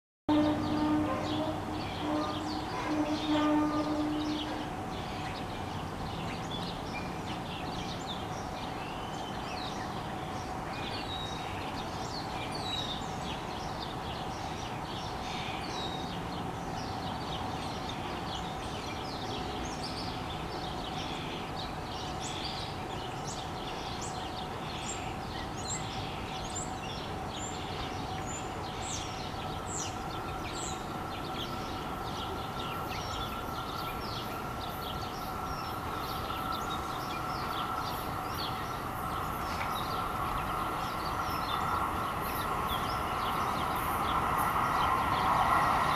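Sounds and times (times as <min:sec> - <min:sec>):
songbirds chirping: 0:00.3 - 0:45.9
steady background hum: 0:00.3 - 0:45.9.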